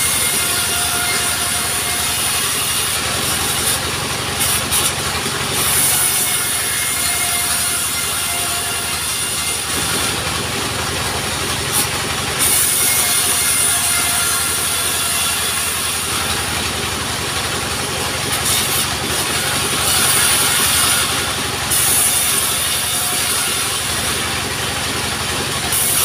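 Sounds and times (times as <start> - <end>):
saw cutting wood hiss: 0.0 - 10.6, 11.6 - 17.0, 18.2 - 24.5, 25.6 - 26.0
sawmill engine running: 0.0 - 26.0.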